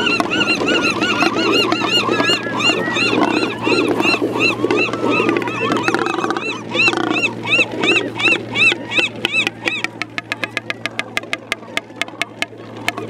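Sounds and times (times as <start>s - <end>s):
birds calling low: 0.0s - 13.0s.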